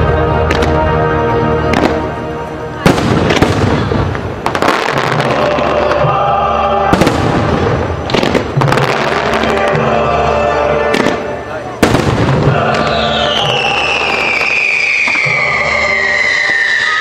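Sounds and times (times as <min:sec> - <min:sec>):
music playing: 0:00.0 - 0:17.0
fireworks bangs: 0:00.4 - 0:00.9, 0:01.6 - 0:02.2, 0:02.8 - 0:10.1, 0:10.8 - 0:17.0.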